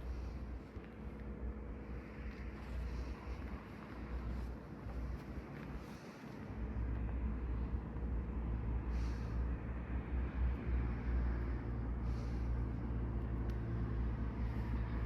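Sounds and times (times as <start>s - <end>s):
van engine idling: 0.0s - 15.0s.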